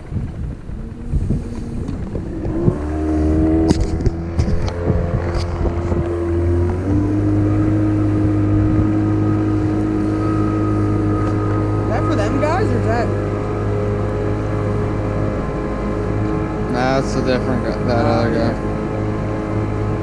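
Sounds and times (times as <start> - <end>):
boat motor running: 0.0 - 20.0
wind rumble: 0.0 - 20.0.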